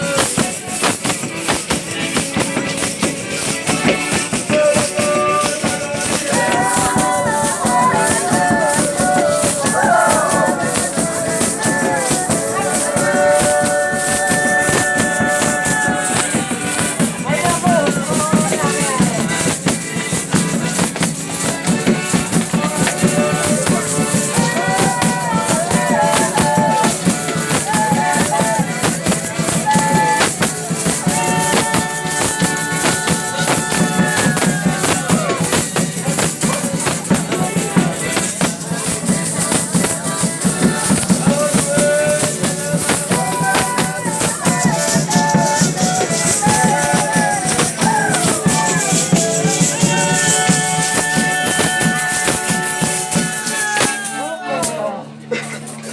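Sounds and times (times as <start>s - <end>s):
tambourine: 0.0s - 54.2s
rattles shaking: 0.0s - 54.8s
wavering folk melody: 0.0s - 55.1s.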